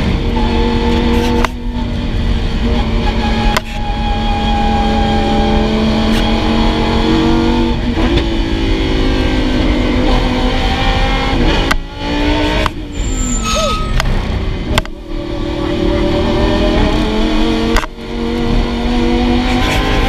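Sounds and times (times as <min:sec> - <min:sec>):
car engine accelerating and shifting: 0:00.0 - 0:20.0.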